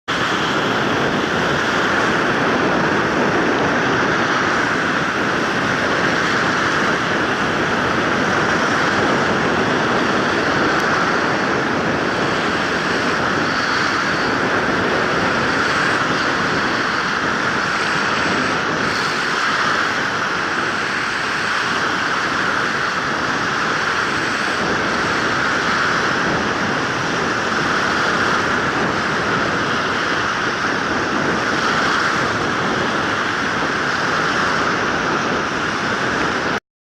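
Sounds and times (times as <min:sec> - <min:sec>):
ocean surf on shore: 0:00.1 - 0:36.6.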